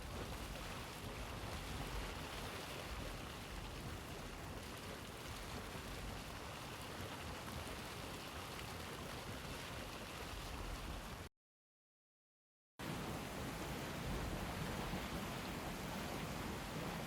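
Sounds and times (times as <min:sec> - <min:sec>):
hot spring water bubbling: 0:00.0 - 0:11.3, 0:12.8 - 0:17.0.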